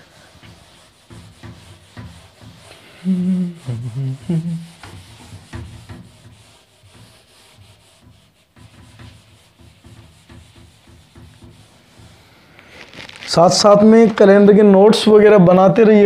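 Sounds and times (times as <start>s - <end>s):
eraser rubbing on whiteboard: 0.0s - 14.5s.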